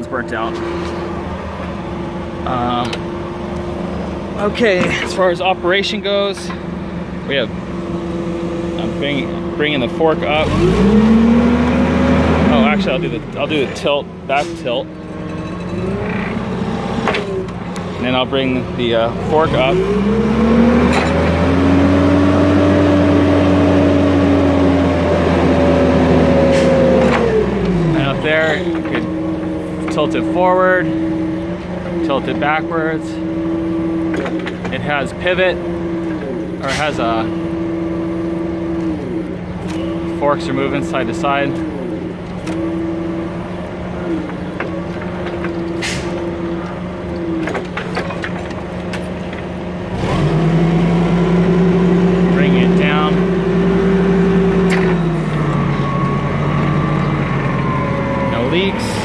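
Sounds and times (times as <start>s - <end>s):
forklift engine revving: 0.0s - 59.0s
hydraulic lift raising forks: 0.0s - 59.0s.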